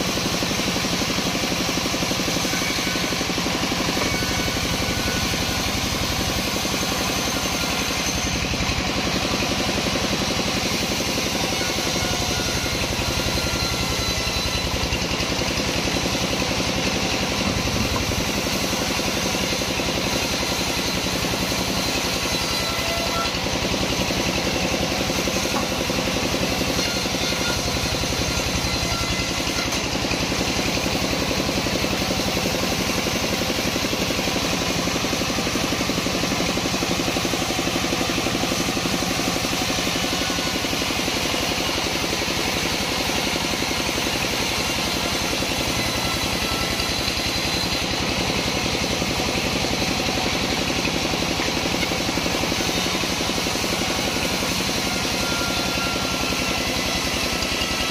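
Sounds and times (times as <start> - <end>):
sawmill saw running: 0.0 - 57.9.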